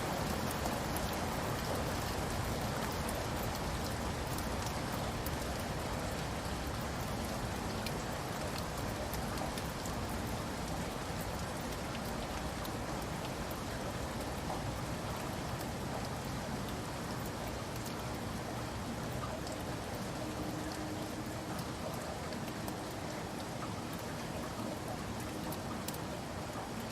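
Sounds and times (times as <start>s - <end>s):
rain on a roof: 0.0s - 26.9s.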